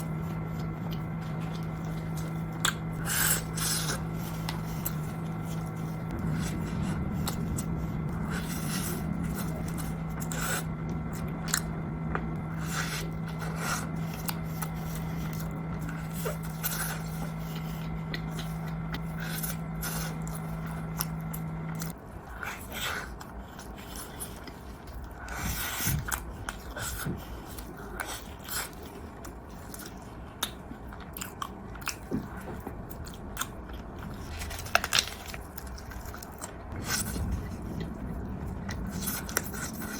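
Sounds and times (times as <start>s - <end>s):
low hum: 0.0s - 39.9s
person chewing crunchy food: 0.0s - 39.9s.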